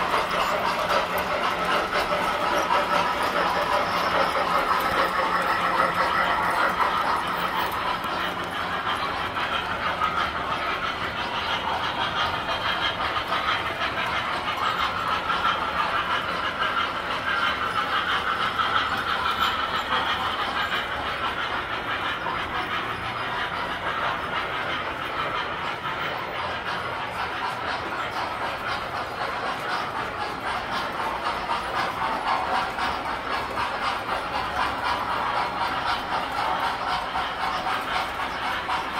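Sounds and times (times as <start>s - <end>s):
model trains clattering on metal track: 0.0s - 38.9s.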